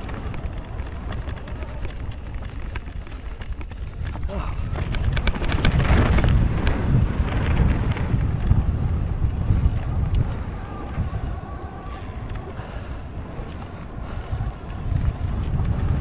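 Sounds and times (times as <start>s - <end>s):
bike tyres and frame rumbling: 0.0s - 16.0s
sharp clicks and rattles: 0.0s - 16.0s
wind buffeting microphone: 0.0s - 16.0s.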